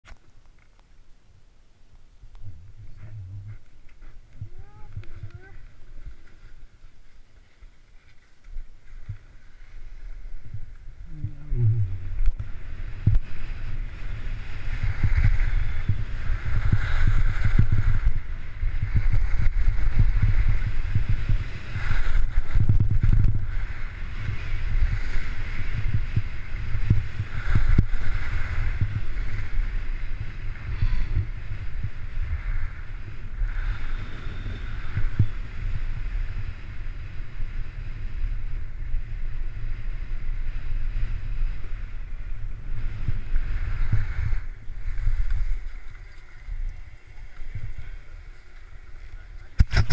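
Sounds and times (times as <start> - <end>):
wind rumbling on microphone: 0.0 - 49.9
skis scraping on snow: 3.0 - 49.9.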